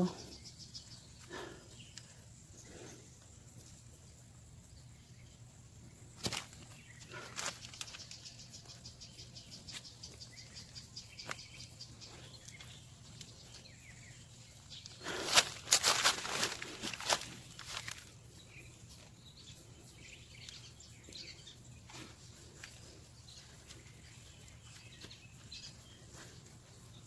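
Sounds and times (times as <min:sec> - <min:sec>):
digging in garden soil: 0:05.2 - 0:27.0.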